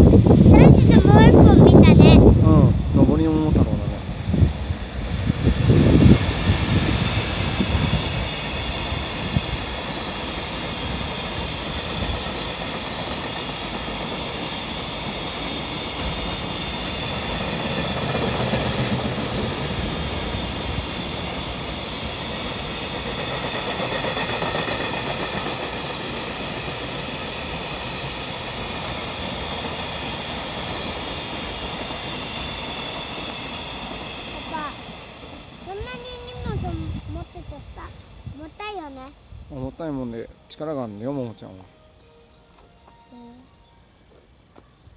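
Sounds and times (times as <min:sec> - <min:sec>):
freight train wheels rumbling: 0:00.0 - 0:44.9.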